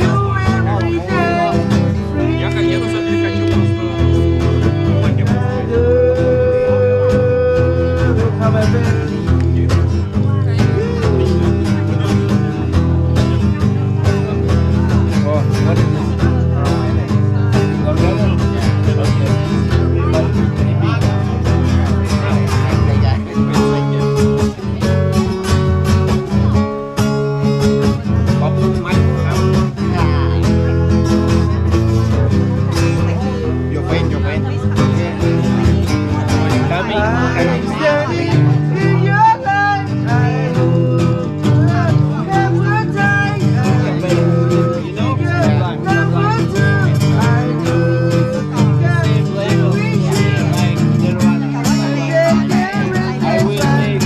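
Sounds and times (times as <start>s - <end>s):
bass line: 0.0s - 54.0s
live blues guitar: 0.0s - 54.0s.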